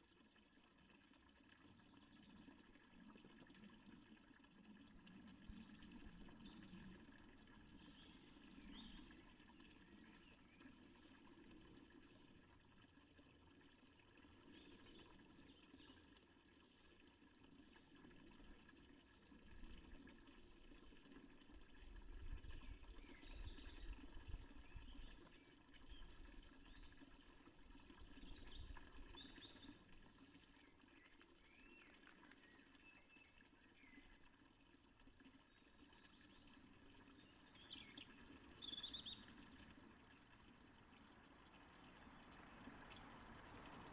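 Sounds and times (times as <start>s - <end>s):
water fountain splashing: 0.0s - 16.1s, 16.7s - 43.9s.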